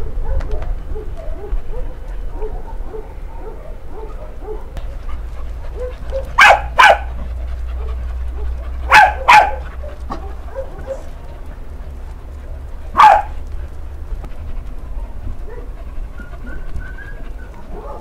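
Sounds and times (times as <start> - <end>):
dogs barking: 0.0 - 18.0
soft dog sounds: 0.2 - 18.0.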